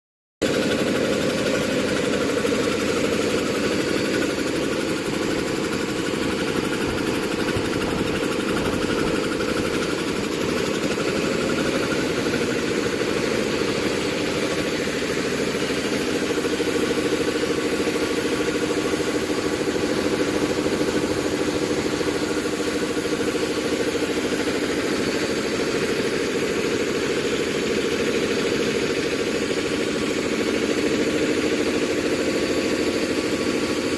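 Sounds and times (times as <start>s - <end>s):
air compressor pump running: 0.4s - 33.9s.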